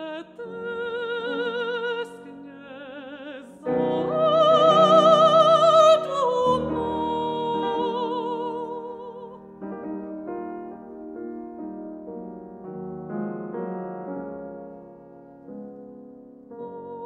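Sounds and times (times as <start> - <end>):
piano playing slow classical passage: 0.0 - 17.0.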